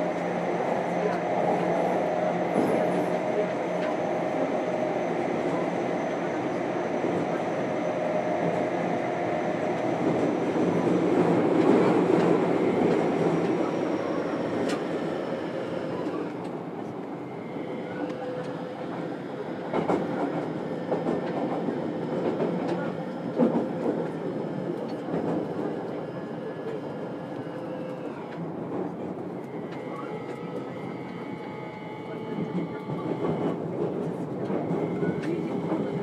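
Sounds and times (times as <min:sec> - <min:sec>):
rumble of train wheels on rail: 0:00.0 - 0:36.0.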